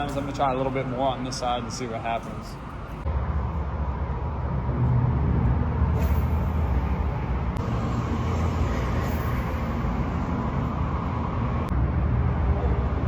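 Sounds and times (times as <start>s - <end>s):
traffic rumbling on a bridge: 0.0s - 13.0s.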